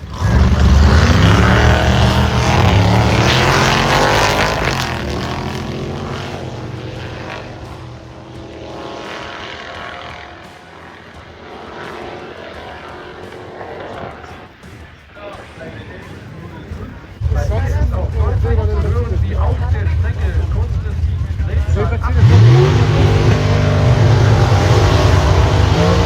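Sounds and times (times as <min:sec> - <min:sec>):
drag racing car accelerating: 0:00.0 - 0:14.8, 0:16.1 - 0:26.0.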